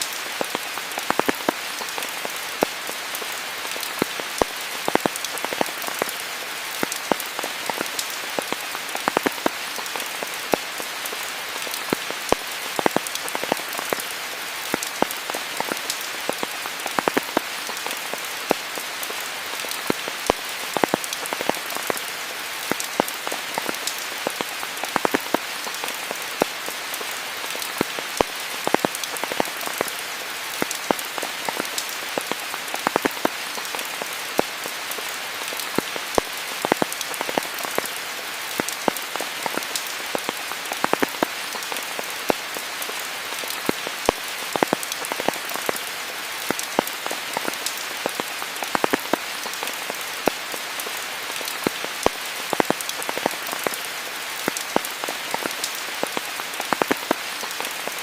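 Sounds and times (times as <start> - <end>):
raindrops tapping nearby: 0.0 - 58.0
steady rain hiss: 0.0 - 58.0.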